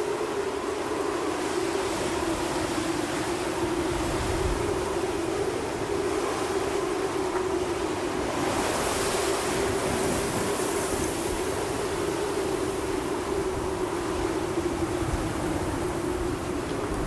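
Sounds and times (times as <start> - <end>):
howling wind: 0.0 - 17.0.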